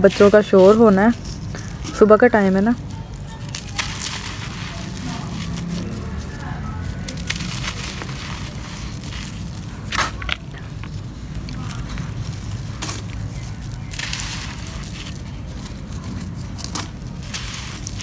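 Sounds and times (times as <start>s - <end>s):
crumbs trickling: 0.0s - 18.0s
cement chunks crunching in hand: 0.1s - 18.0s.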